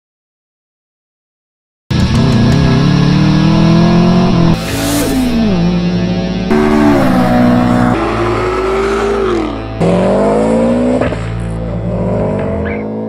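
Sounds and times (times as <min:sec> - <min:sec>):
car engine accelerating: 0:01.9 - 0:13.0.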